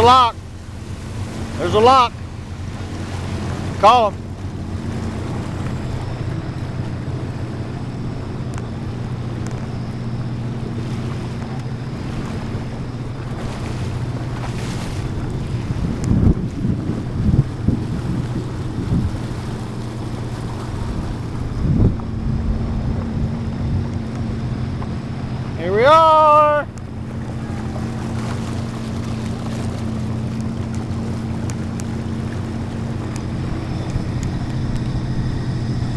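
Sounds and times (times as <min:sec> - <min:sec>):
wind on microphone: 0:00.0 - 0:25.5, 0:26.9 - 0:35.9
jet ski engine drone: 0:00.0 - 0:35.9
water rushing past hull: 0:00.0 - 0:35.9.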